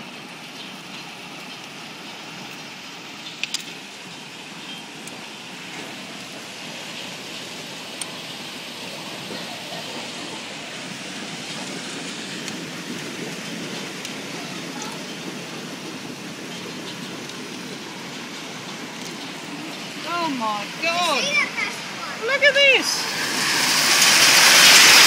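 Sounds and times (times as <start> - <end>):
hail and heavy rain pelting: 3.0 - 25.0
hailstones clicking on hard surfaces: 3.2 - 8.2, 9.1 - 25.0.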